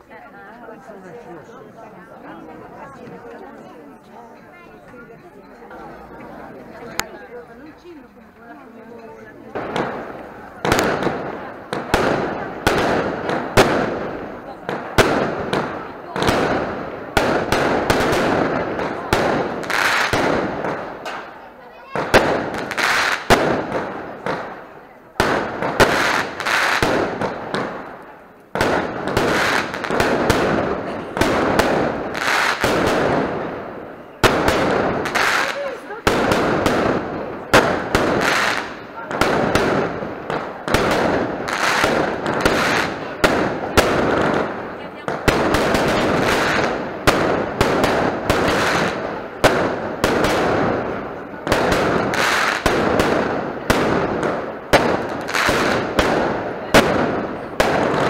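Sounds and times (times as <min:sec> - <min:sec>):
firecrackers banging and crackling: 0:00.0 - 0:58.0.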